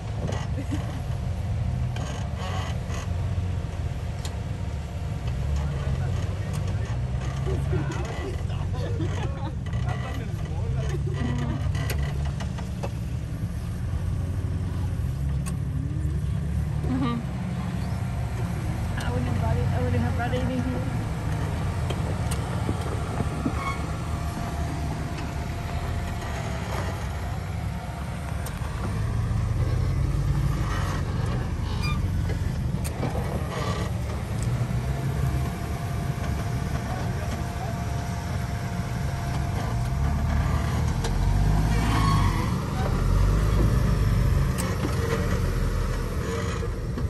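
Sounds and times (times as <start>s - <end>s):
engine rumbling at low revs: 0.0s - 47.0s.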